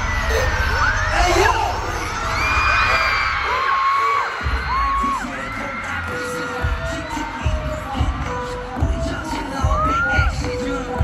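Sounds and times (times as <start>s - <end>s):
dance music over sound system: 0.0s - 11.0s.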